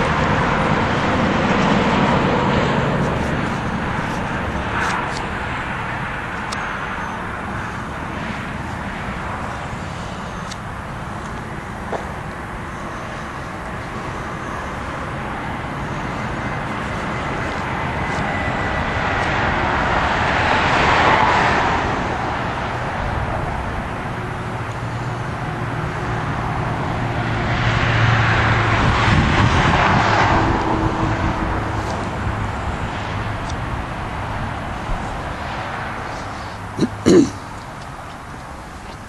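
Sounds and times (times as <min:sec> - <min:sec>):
road traffic noise: 0:00.0 - 0:39.0
vehicles passing: 0:00.0 - 0:39.0.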